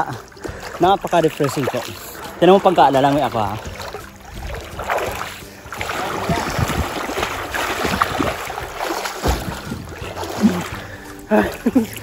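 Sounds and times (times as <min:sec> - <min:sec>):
water splashing from swimming: 0:00.0 - 0:12.0.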